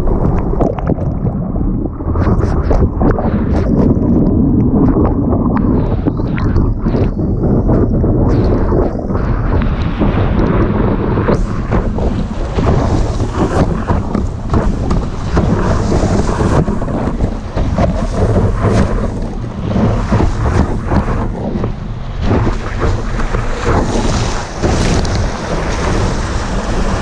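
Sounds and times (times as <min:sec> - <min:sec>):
rushing water and spray: 0:00.0 - 0:27.0
wind buffeting microphone: 0:00.0 - 0:27.0.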